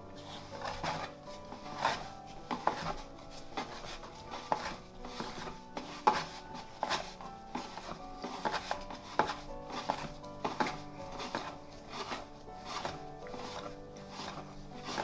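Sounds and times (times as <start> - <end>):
dough knocking and rubbing: 0.0 - 15.0
soft background music: 0.0 - 15.0.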